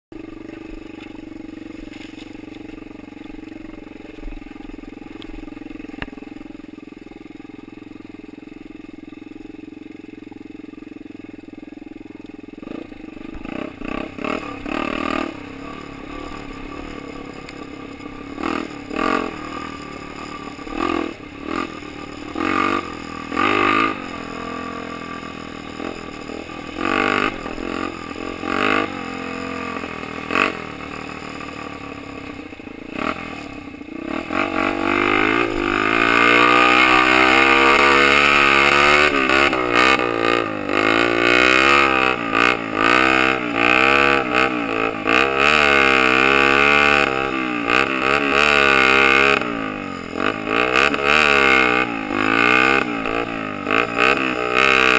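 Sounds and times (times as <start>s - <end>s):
motorcycle engine revving: 0.1s - 54.9s.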